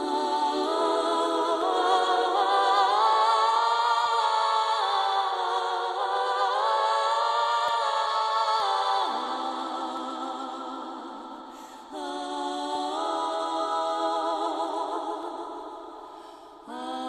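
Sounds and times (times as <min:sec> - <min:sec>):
choir singing unaccompanied: 0:00.0 - 0:17.0.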